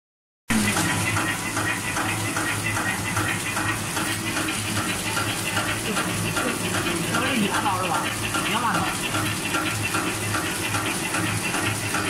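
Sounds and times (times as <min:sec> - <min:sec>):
packing machine humming: 0:00.5 - 0:12.0
rhythmic machine clatter: 0:00.5 - 0:12.0.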